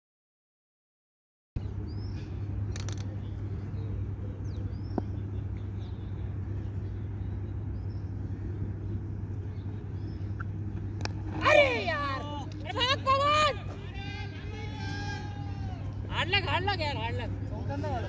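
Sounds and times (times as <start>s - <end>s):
low outdoor rumble: 1.6s - 18.0s.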